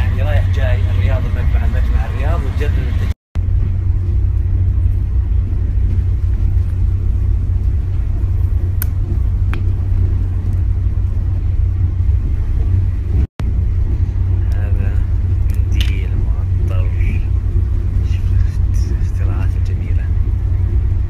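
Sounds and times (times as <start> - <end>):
moving train rumble inside carriage: 0.0 - 21.0.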